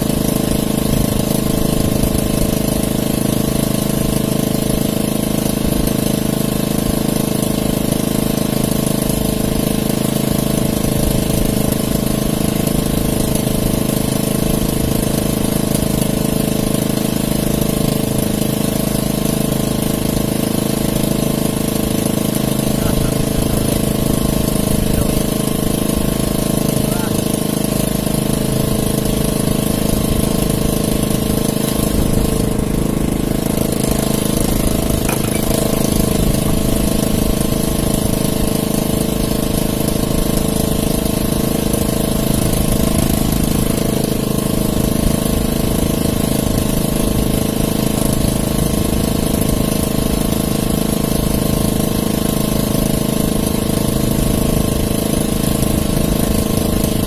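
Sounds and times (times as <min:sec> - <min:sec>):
small engine droning: 0:00.0 - 0:57.0.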